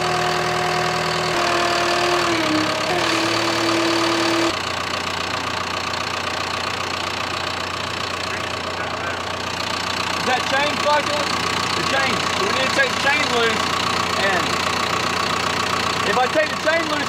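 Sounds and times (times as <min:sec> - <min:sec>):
dozer diesel engine running: 0:00.0 - 0:17.0.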